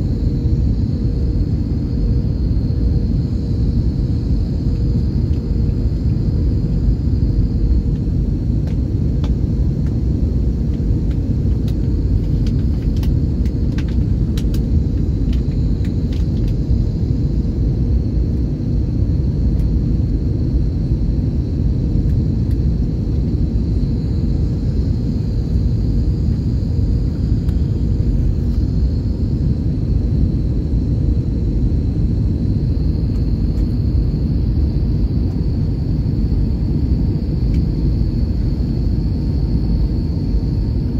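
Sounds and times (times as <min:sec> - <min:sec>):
airliner cabin engine rumble: 0:00.0 - 0:40.9
faint steady hum: 0:00.0 - 0:40.9.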